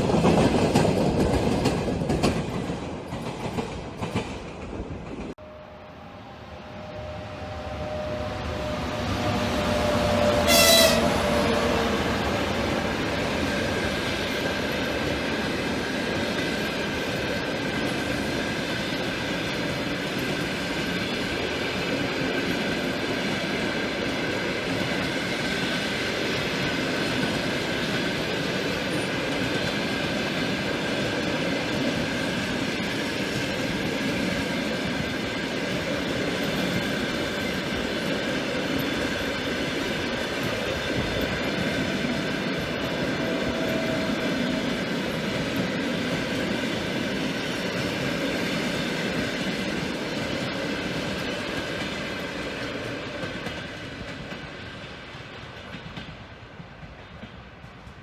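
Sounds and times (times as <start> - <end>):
train wheels rattling on track: 0.0 - 5.6, 6.6 - 58.0.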